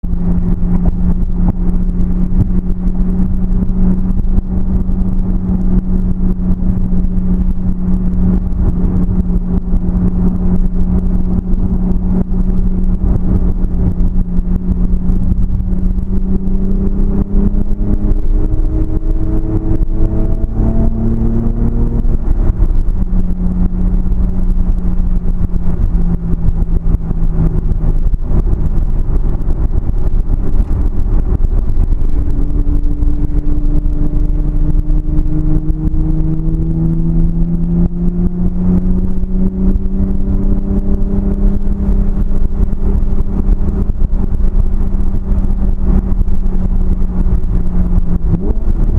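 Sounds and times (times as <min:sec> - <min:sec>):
car engine droning: 0:00.0 - 0:48.9.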